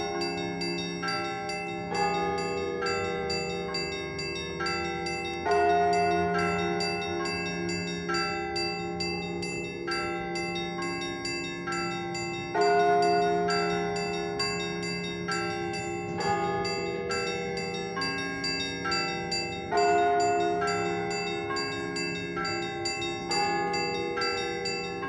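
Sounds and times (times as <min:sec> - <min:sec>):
small church bells ringing: 0:00.0 - 0:25.0.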